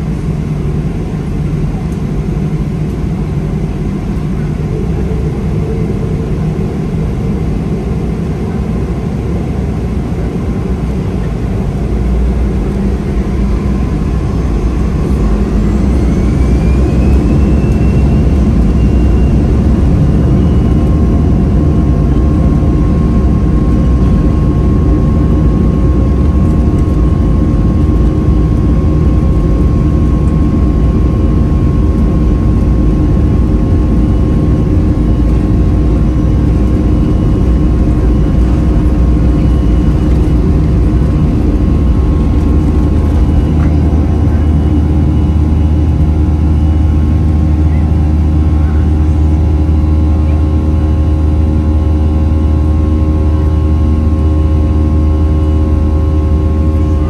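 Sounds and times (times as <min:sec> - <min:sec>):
jet engine whine: 0:00.0 - 0:57.0
loud constant engine rumble: 0:00.0 - 0:57.0.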